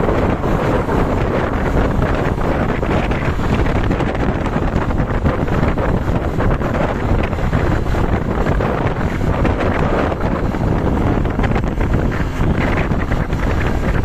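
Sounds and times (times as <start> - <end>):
low vehicle rumble: 0.0 - 14.0
wind buffeting microphone: 0.0 - 14.0.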